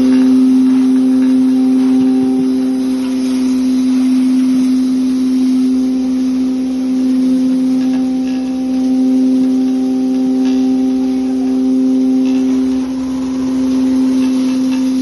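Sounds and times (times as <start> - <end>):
electric spice grinder humming: 0.0 - 15.0.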